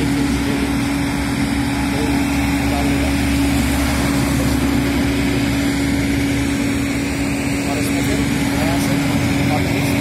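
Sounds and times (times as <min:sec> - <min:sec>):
road milling machine engine drone: 0:00.0 - 0:10.0.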